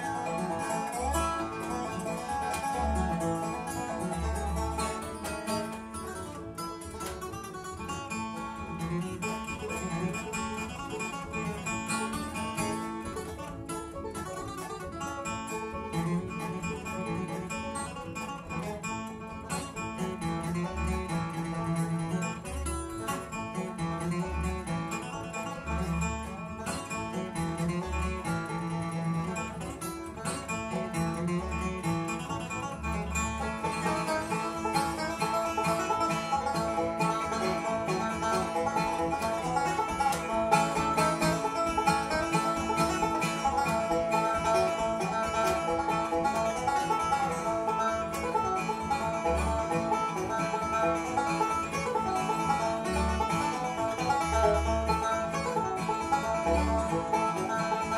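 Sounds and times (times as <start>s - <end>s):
acoustic guitar and banjo picking: 0.0s - 57.9s.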